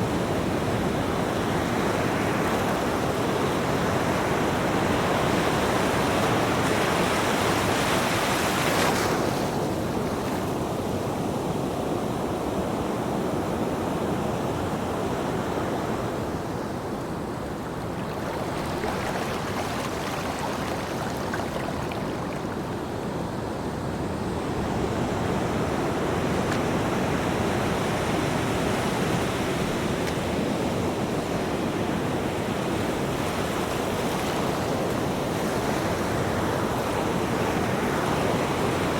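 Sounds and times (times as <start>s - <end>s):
ocean waves breaking: 0.0s - 10.7s, 15.0s - 38.9s.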